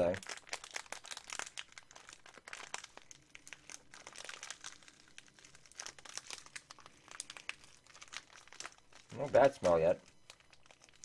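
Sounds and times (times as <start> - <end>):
snack wrapper crinkling: 0.0 - 11.0.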